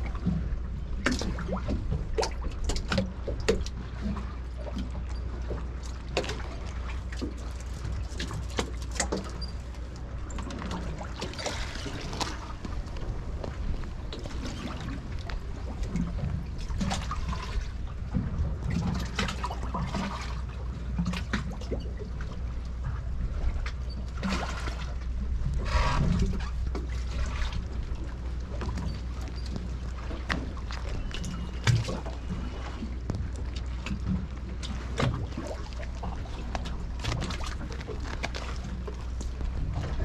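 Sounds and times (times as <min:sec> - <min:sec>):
low rumble: 0:00.0 - 0:40.0
water lapping against hulls: 0:00.0 - 0:40.0.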